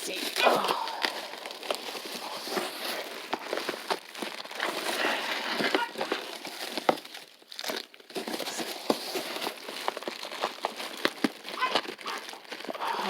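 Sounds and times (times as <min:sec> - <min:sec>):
wrappers and paper crinkling: 0:00.0 - 0:13.0.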